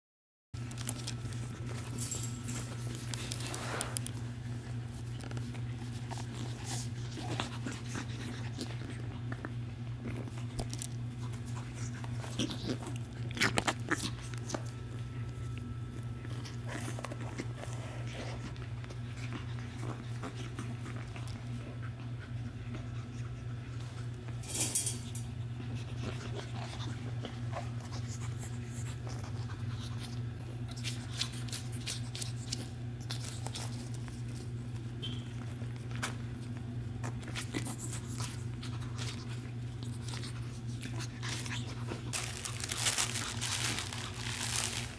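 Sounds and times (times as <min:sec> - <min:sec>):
puppies playing: 0:00.6 - 0:44.9
steady low hum: 0:00.6 - 0:44.9.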